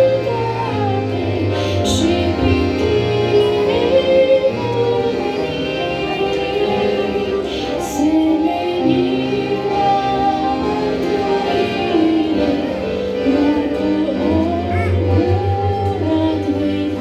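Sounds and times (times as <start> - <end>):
instrumental accompaniment: 0.0 - 17.0
woman singing into a microphone: 0.0 - 17.0.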